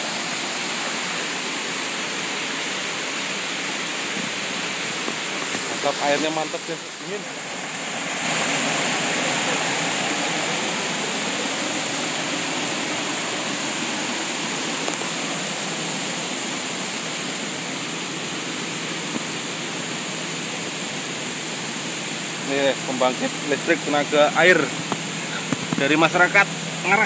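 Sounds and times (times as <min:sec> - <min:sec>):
waterfall pouring over rocks: 0:00.0 - 0:27.0.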